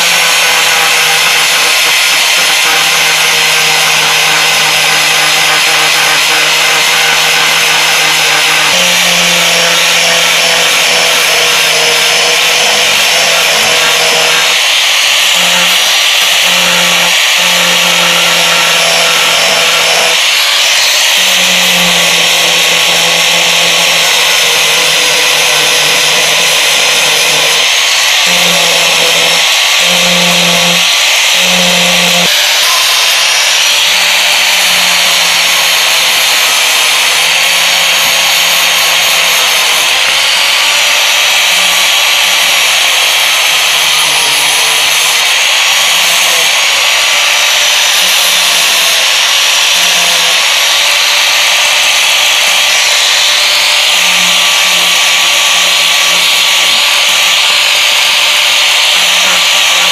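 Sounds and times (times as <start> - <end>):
angle grinder sanding wood: 0.0 - 59.9.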